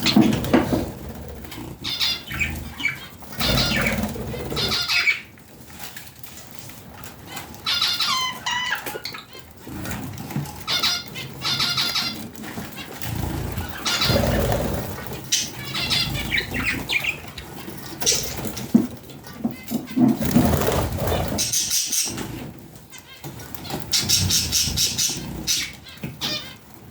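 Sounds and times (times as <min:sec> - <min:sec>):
budgerigars chirping and warbling: 0:00.0 - 0:05.9, 0:07.0 - 0:26.8
wings flapping: 0:00.0 - 0:26.8.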